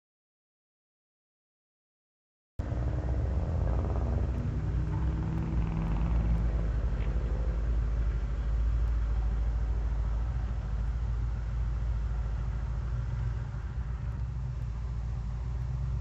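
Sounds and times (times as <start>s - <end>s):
car engine idling deep rumble: 2.6s - 16.0s.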